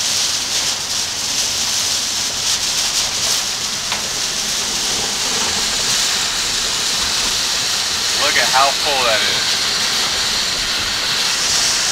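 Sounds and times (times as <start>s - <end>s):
water hissing: 2.0s - 11.9s.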